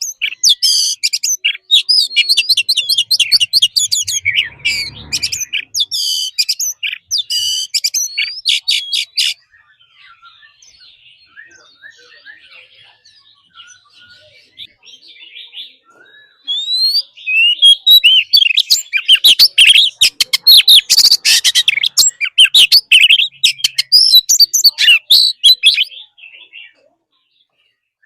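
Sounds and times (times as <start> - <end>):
bird singing: 0.0 - 28.0.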